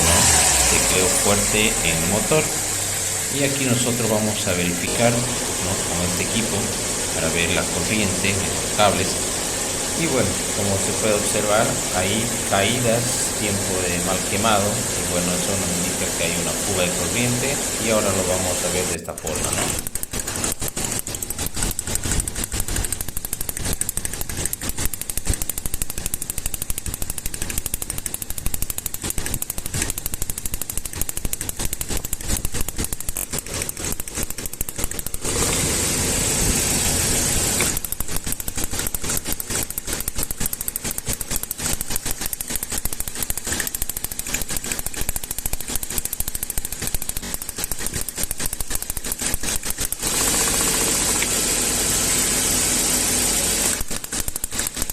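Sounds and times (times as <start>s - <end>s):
car engine running: 0.0s - 54.9s
fast sharp clicks: 0.0s - 54.9s.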